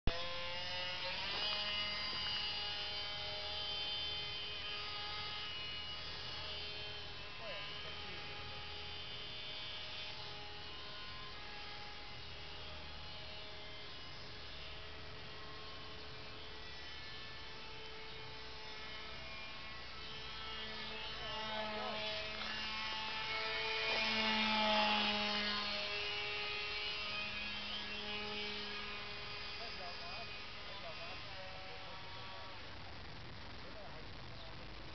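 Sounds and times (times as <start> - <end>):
model airplane motor whining: 0.1 - 34.2.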